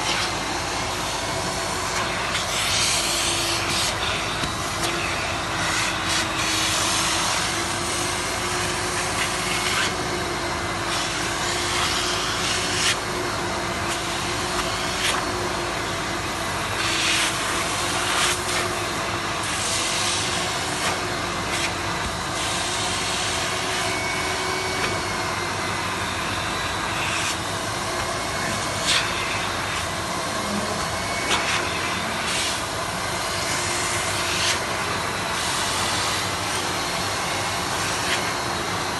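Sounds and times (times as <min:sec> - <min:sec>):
wet-cleaning vacuum running: 0:00.0 - 0:38.9.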